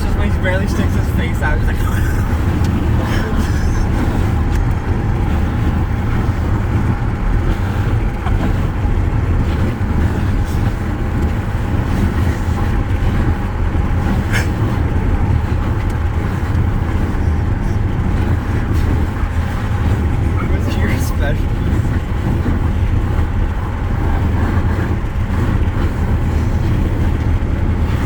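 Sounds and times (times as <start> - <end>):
low rumble of moving car: 0.0 - 28.0
wind through open car window: 0.0 - 28.0.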